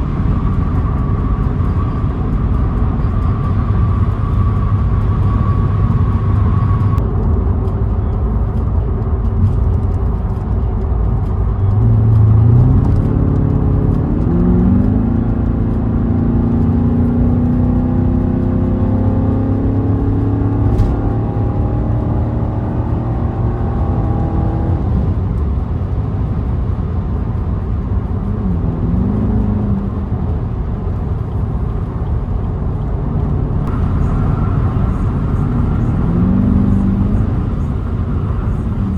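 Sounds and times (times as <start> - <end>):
car engine accelerating: 0.0 - 7.4, 9.3 - 38.9
road noise: 0.0 - 38.9.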